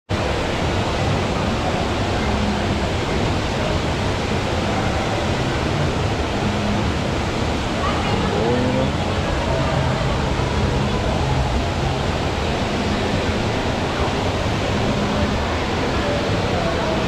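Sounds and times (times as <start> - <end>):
rushing background noise: 0.1 - 17.0
distant voices murmuring: 0.2 - 17.0.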